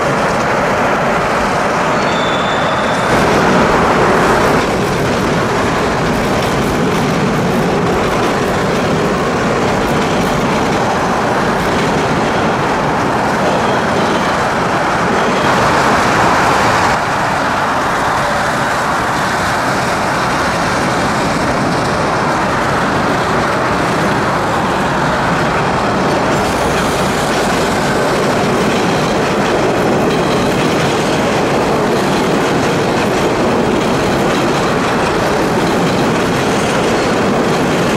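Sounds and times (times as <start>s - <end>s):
train wheels on rails: 0.0s - 37.9s.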